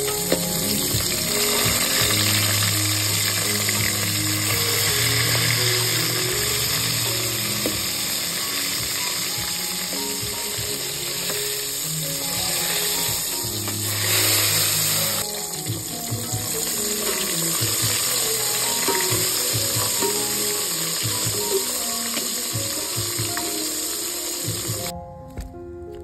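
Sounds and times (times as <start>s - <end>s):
fish sizzling in hot oil: 0.0s - 24.9s.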